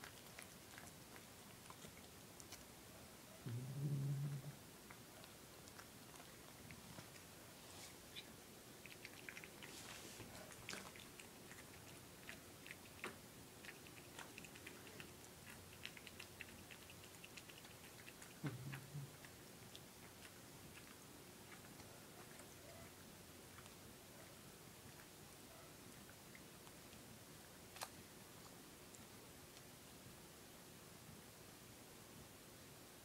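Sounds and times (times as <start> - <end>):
cats chewing with small clicks: 0.0 - 2.9, 4.7 - 30.2.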